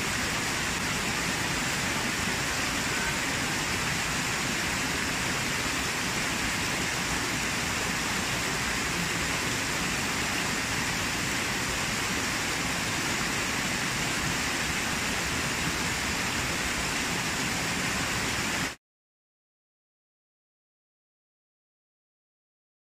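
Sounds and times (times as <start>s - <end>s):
waterfall rushing over rocks: 0.0s - 18.8s.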